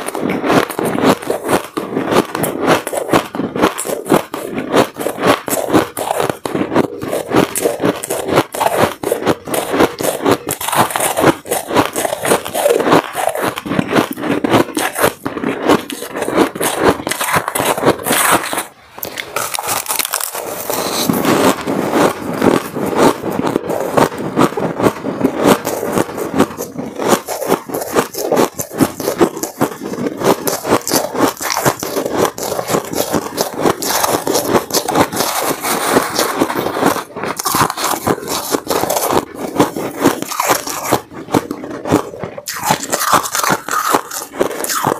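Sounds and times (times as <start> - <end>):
crunching of ice being chewed: 0.0 - 44.9
metal spoon scraping ice: 0.0 - 44.9.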